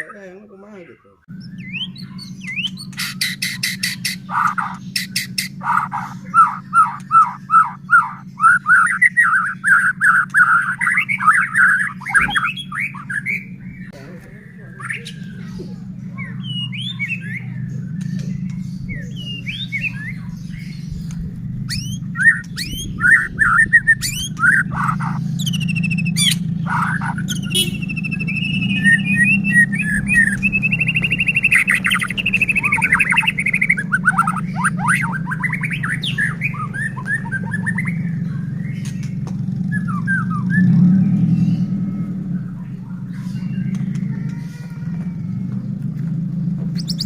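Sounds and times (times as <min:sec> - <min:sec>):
steady low hum: 0:01.0 - 0:47.0
bird singing whistles and trills: 0:01.3 - 0:44.4, 0:46.7 - 0:47.0
sharp clicking bird notes: 0:02.0 - 0:13.4, 0:15.0 - 0:42.2, 0:43.1 - 0:47.0.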